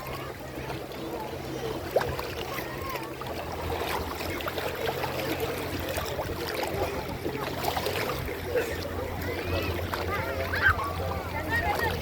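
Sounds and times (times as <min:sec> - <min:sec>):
water trickling and lapping: 0:00.0 - 0:12.0.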